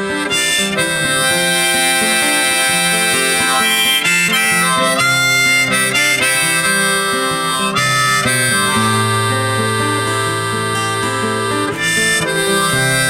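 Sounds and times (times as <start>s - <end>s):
instrumental song melody: 0.0s - 13.0s.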